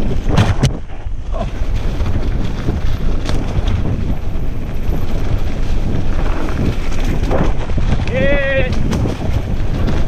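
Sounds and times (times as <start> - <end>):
tyres rumbling on dirt trail: 0.0 - 10.0
wind buffeting microphone: 0.0 - 10.0
bike clicks and knocks: 0.1 - 4.4, 5.0 - 10.0.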